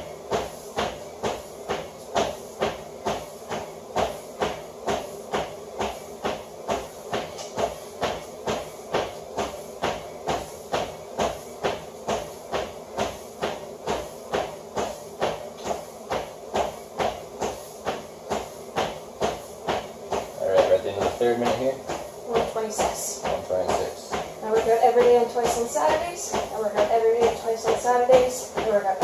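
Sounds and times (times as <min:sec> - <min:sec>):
footsteps on treadmill: 0:00.0 - 0:29.0.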